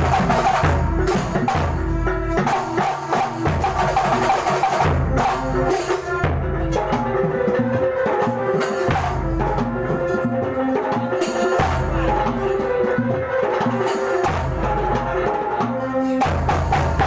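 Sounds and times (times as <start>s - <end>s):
frame drums driving rhythm: 0.0s - 17.0s.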